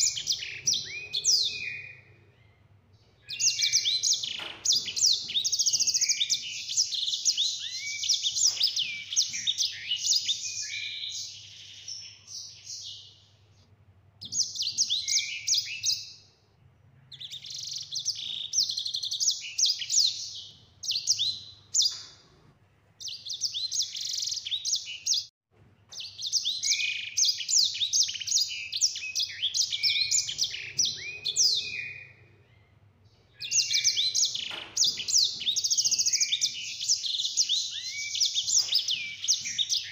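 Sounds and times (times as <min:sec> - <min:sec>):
finch singing trills and whistles: 0:00.0 - 0:02.6, 0:03.2 - 0:13.2, 0:14.2 - 0:16.3, 0:17.0 - 0:22.2, 0:23.0 - 0:25.3, 0:25.9 - 0:32.7, 0:33.3 - 0:39.9.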